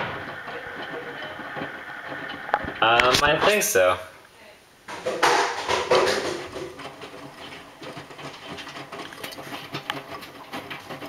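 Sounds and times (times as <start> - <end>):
laundry tumbling with knocks: 0.0 - 3.9, 4.8 - 11.0
washing machine running: 0.0 - 4.0, 4.8 - 11.0.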